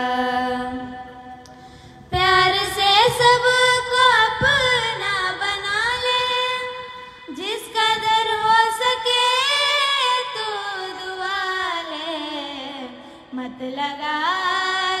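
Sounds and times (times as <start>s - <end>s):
women singing into microphones: 0.0s - 15.0s.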